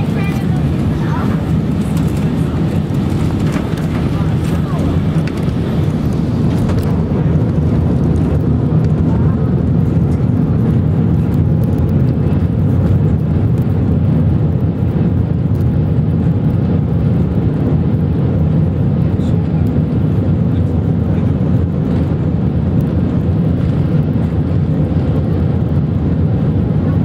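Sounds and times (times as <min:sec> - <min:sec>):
low rumble in airliner cabin: 0:00.0 - 0:27.0.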